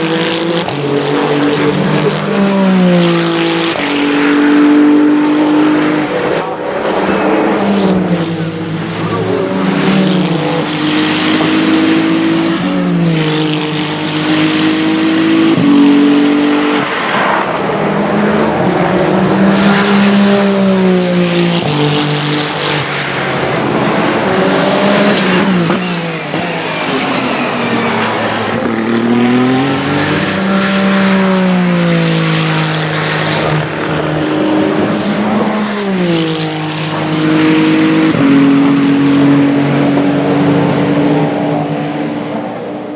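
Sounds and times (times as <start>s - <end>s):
race car engine passing: 0.0s - 42.9s.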